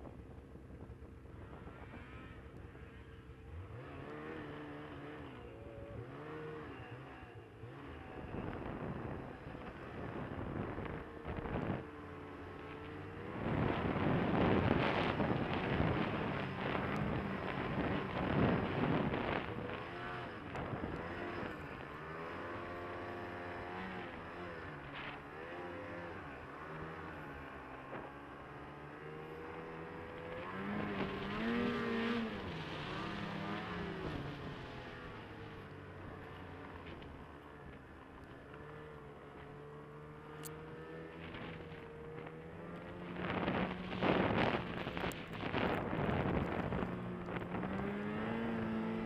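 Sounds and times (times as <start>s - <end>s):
snowmobile engine revving: 1.4s - 49.0s.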